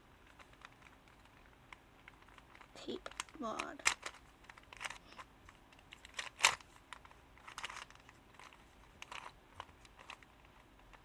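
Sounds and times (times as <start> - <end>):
puzzle cube plastic clicks: 0.2 - 11.0.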